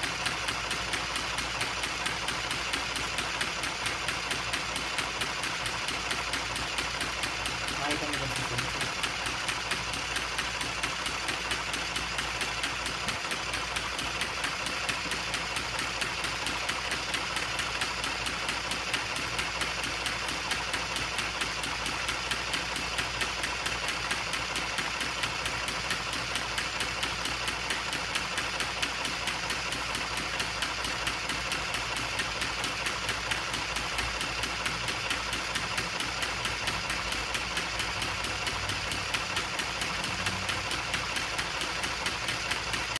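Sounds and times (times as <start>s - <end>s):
machine humming and pulsing: 0.0s - 42.9s.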